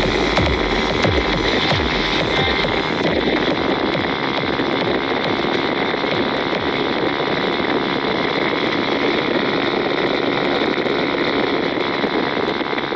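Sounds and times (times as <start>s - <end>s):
scooter engine running: 0.0s - 12.9s
wind and road rush: 0.0s - 12.9s.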